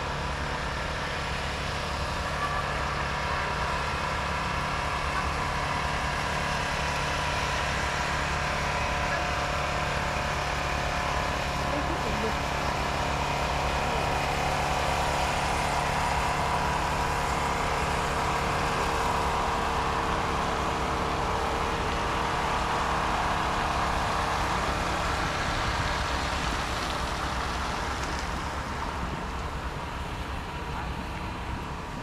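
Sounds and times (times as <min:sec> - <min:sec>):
engine humming: 0:00.0 - 0:32.0
motor traffic noise: 0:00.0 - 0:32.0.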